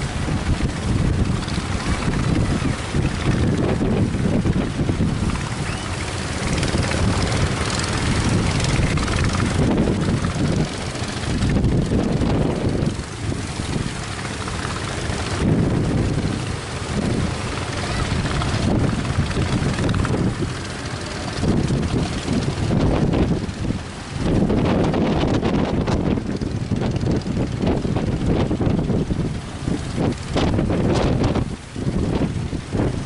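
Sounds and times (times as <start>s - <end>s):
boat engines droning: 0.0s - 33.0s
wind buffeting microphone: 0.0s - 33.0s.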